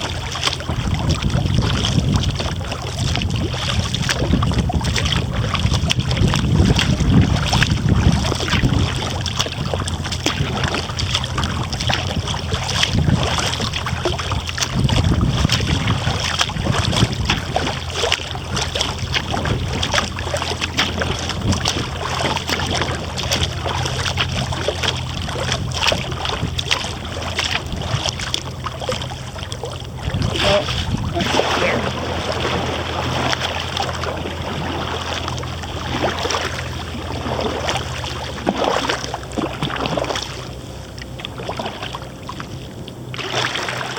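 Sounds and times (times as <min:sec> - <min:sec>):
paddle splashing in water: 0:00.0 - 0:43.9
water dripping off paddle: 0:00.0 - 0:43.9
wind rumble on microphone: 0:00.0 - 0:43.9.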